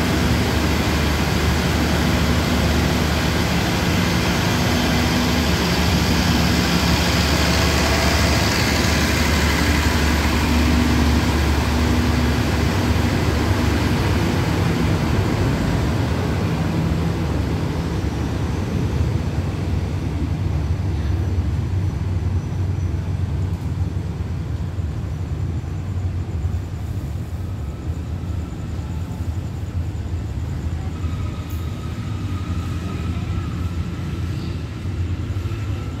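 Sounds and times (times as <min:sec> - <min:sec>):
diesel train rumbling: 0:00.0 - 0:36.0.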